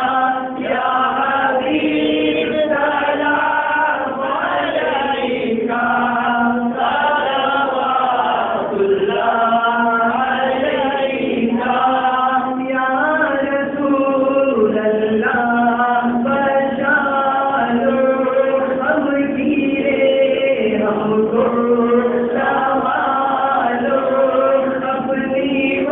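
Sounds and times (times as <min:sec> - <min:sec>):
men chanting without instruments: 0:00.0 - 0:25.9.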